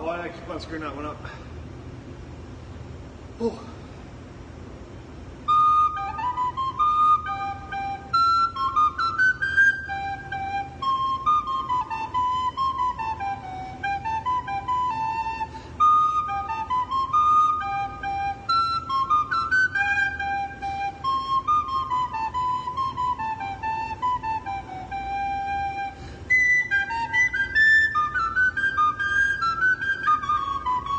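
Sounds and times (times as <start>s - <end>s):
tin whistle melody: 5.4s - 30.9s.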